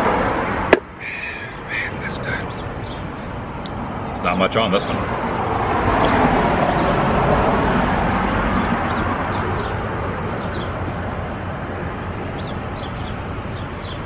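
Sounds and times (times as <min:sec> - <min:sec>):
street traffic noise: 0:00.0 - 0:14.0
vehicle passing by: 0:00.0 - 0:14.0.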